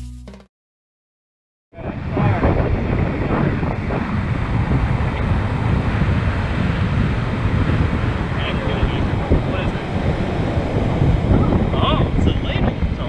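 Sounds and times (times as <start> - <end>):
ocean surf breaking: 1.8 - 13.0
wind buffeting microphone: 1.8 - 13.0.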